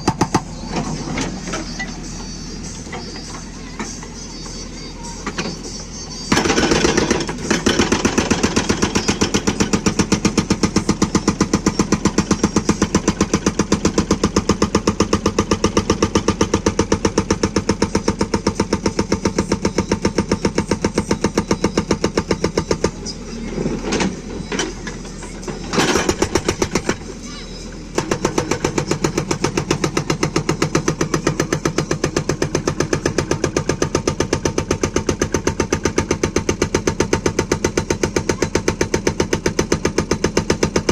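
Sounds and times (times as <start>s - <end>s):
hydraulic breaker hammering: 0.0s - 0.9s, 6.3s - 23.0s, 23.6s - 27.1s, 27.9s - 40.9s
diesel engine running: 0.0s - 40.9s.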